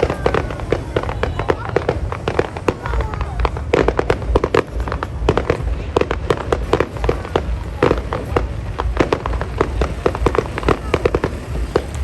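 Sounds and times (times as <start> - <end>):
fireworks bangs and pops: 0.0 - 12.0
low rumble: 0.0 - 12.0.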